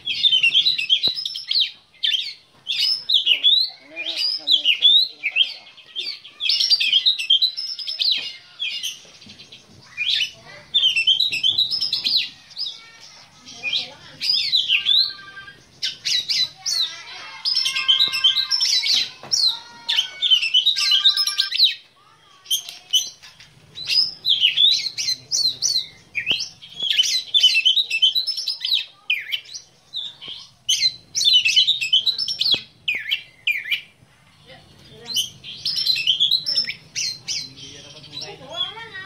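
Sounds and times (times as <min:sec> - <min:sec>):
bird singing whistles and chirps: 0:00.0 - 0:09.0, 0:09.9 - 0:12.8, 0:13.7 - 0:21.8, 0:23.8 - 0:33.9, 0:35.0 - 0:38.7.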